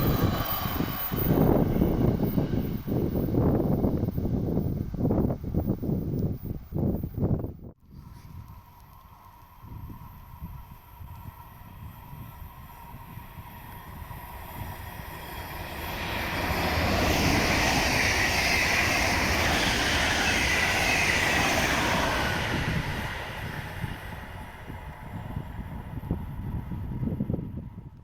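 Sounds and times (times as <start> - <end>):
train wheels rushing on rails: 0.0 - 7.3, 8.7 - 27.9.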